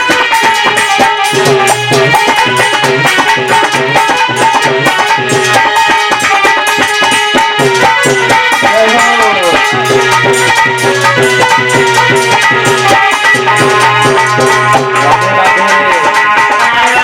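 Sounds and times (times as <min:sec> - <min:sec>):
music with quick drum beat: 0:00.0 - 0:17.0.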